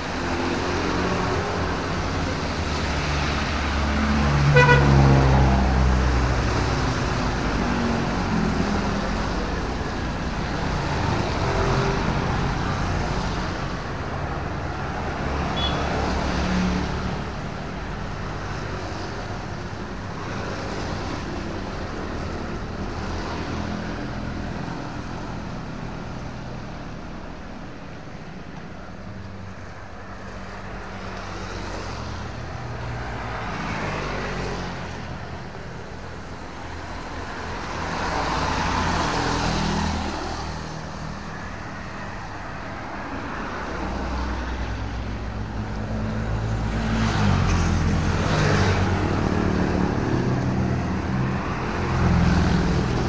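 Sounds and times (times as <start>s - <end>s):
road traffic hum: 0.0s - 53.0s.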